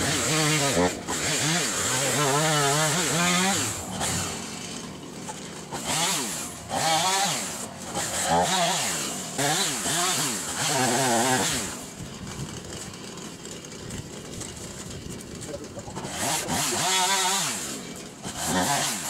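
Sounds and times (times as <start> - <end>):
chainsaw revving while cutting: 0.0 - 19.0.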